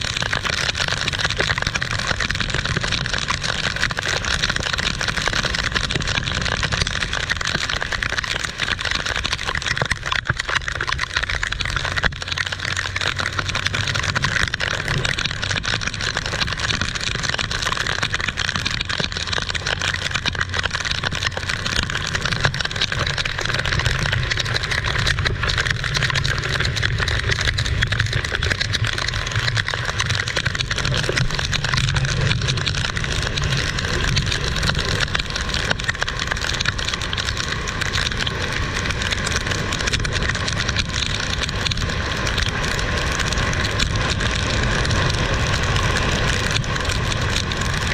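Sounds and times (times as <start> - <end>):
heavy rain falling: 0.0 - 47.9
vehicle engine rumble: 0.0 - 47.9.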